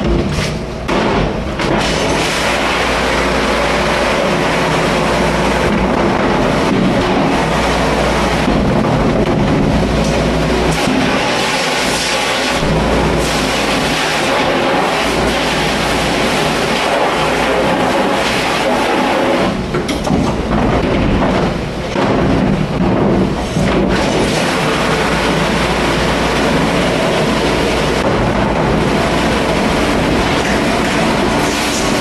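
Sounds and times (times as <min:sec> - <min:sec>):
dish machine running: 0:00.0 - 0:32.0.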